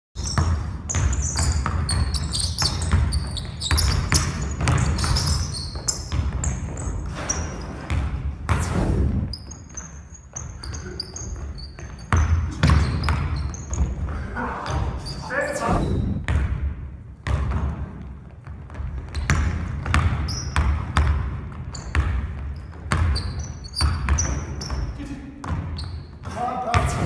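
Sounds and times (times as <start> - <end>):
basketball bouncing on wooden floor: 0.2 - 8.7, 9.3 - 15.0, 16.0 - 27.0
sneakers squeaking: 0.2 - 16.5, 17.2 - 27.0.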